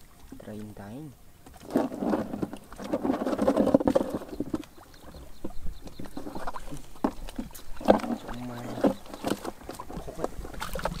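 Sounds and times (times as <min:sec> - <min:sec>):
mud and water splashing: 0:00.0 - 0:11.0.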